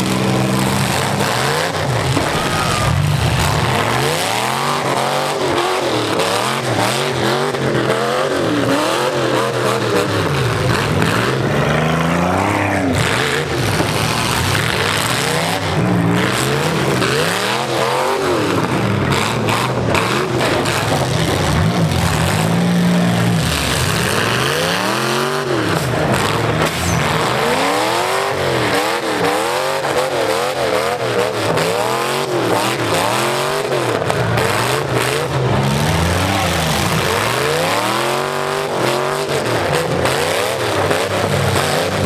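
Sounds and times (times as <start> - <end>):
unmuffled car engines revving: 0.0 - 42.0.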